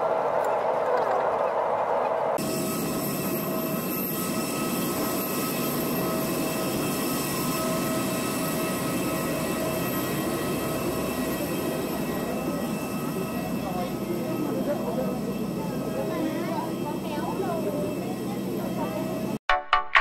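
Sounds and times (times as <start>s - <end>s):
aircraft turbine whine: 0.0s - 19.4s.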